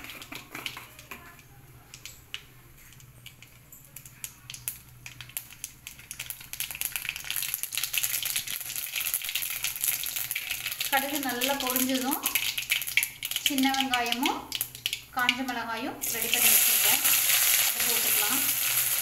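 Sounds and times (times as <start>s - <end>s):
seeds popping in hot oil: 0.0s - 19.0s.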